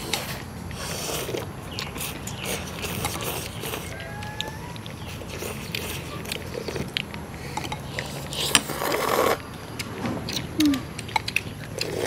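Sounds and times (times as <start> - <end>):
slurping noodles: 0.0 - 12.0.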